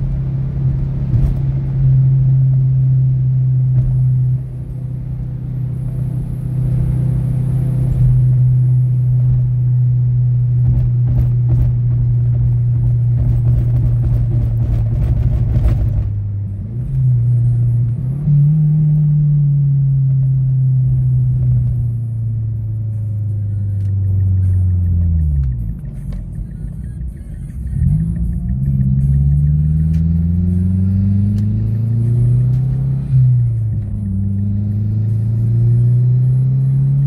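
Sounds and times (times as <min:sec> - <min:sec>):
car engine drone inside cabin: 0:00.0 - 0:37.0.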